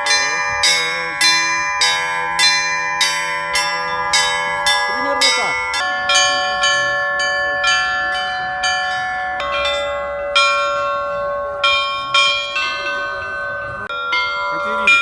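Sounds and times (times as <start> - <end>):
church bells pealing: 0.0 - 15.0
steady low bell: 0.0 - 15.0.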